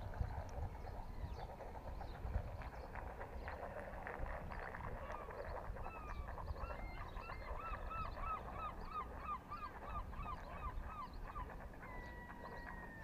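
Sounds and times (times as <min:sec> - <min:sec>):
waterbird calling: 0:00.0 - 0:13.0.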